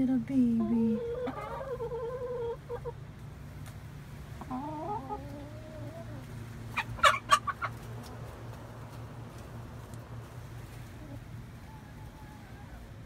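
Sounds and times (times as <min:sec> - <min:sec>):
hens calling softly: 0:00.6 - 0:03.1, 0:04.4 - 0:13.0.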